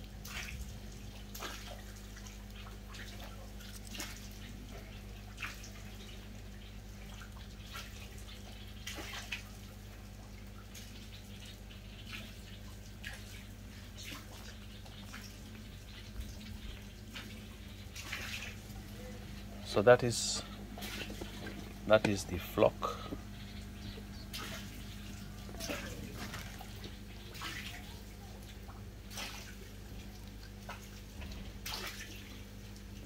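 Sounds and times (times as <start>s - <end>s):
drips and plops on water: 0.0s - 19.5s, 20.4s - 33.0s
steady low hum: 0.0s - 33.0s.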